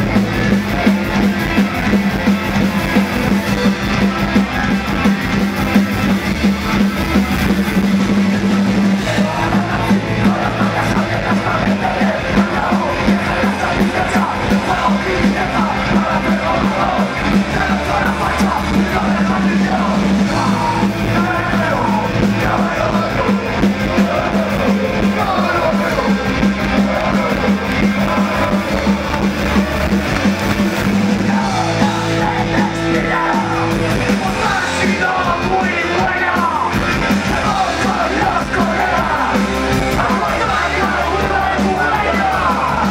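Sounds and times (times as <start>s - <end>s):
bass guitar: 0.0s - 42.9s
drums: 0.0s - 42.9s
electric guitars: 0.0s - 42.9s
shouted vocals: 7.9s - 42.9s.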